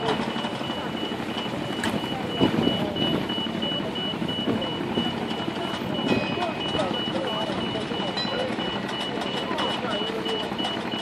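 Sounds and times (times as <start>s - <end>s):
faint distant voices: 0.0s - 11.0s
rapid electronic beeps: 0.0s - 11.0s.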